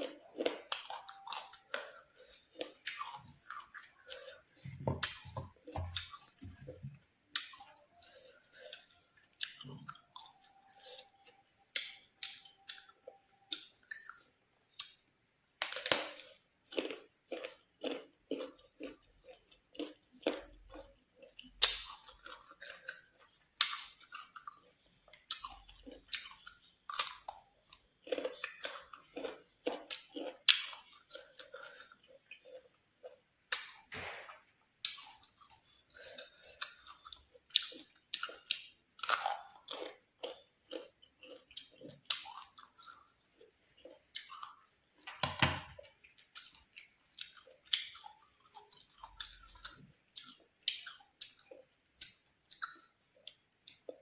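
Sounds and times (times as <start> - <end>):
chewing crisp mango: 0.0 - 33.9, 34.8 - 45.0, 45.6 - 54.0.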